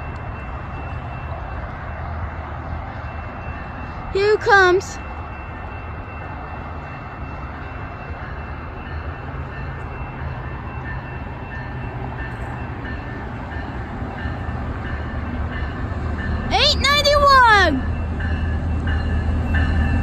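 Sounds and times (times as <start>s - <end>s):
diesel locomotive rumbling: 0.0s - 20.0s.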